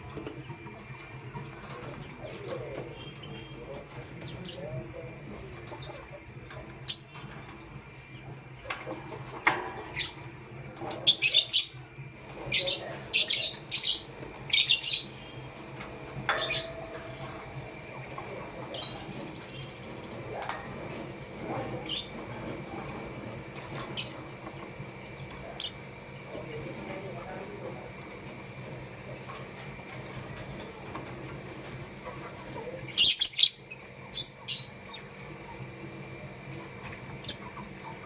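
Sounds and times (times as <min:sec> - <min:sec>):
lovebirds chirping: 0:00.0 - 0:30.8
steady low hum: 0:00.0 - 0:38.0.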